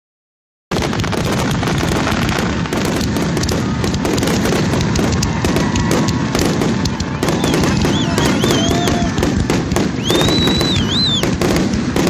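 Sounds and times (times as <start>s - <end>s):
fireworks bangs and crackling: 0.7s - 12.0s.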